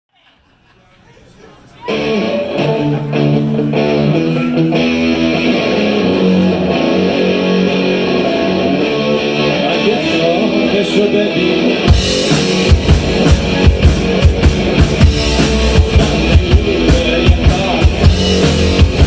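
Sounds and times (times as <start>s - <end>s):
guitar picking and strumming: 1.8s - 19.0s.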